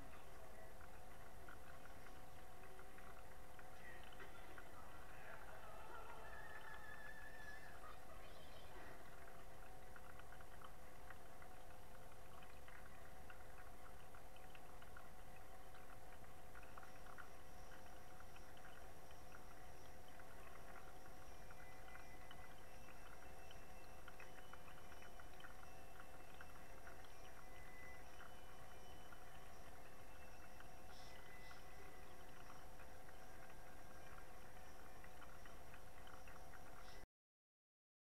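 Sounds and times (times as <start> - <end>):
small crackling ticks: 0.0 - 37.0
aquarium hum: 0.0 - 37.1
water gurgling: 0.0 - 37.1.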